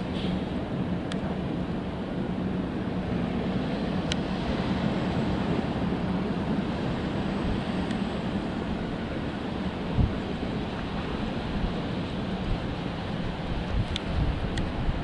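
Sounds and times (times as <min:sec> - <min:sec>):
freight train cars rumbling: 0:00.0 - 0:15.0.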